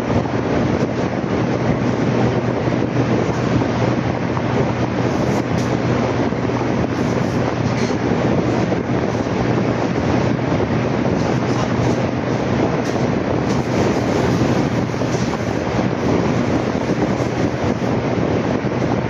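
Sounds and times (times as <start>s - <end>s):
low engine hum: 0.0s - 19.0s
vehicle rumbling: 0.0s - 19.0s
wind on microphone: 0.0s - 19.0s.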